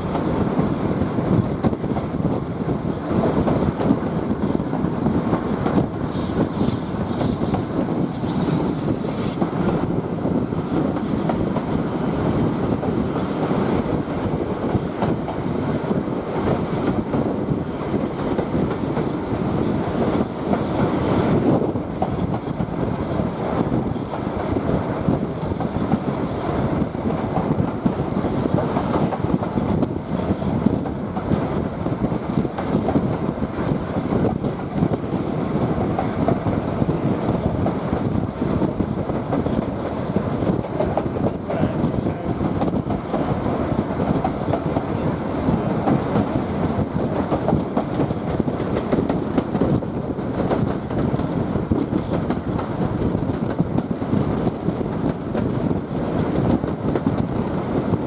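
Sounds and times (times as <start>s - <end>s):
train carriage rumbling and rattling: 0.0s - 58.0s.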